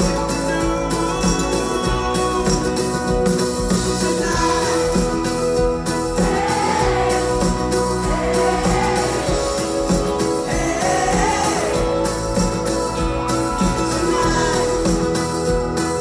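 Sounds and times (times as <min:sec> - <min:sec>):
live pop-rock band: 0:00.0 - 0:16.0
person singing: 0:00.0 - 0:16.0.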